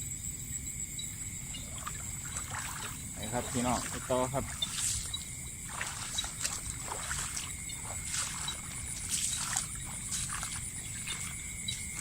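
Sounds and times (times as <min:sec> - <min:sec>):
high-pitched insect drone: 0:00.0 - 0:12.0
water trickling and splashing: 0:01.0 - 0:12.0.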